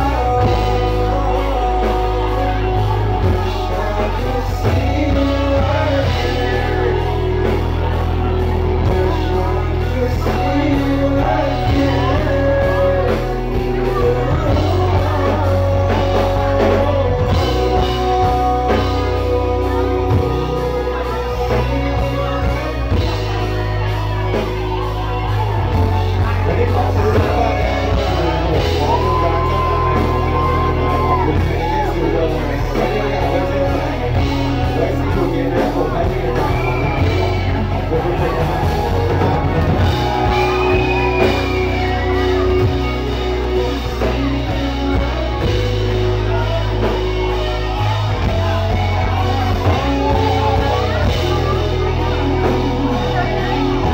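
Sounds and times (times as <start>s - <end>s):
crowd shouting: 0.0s - 53.9s
live band with singer: 0.0s - 53.9s.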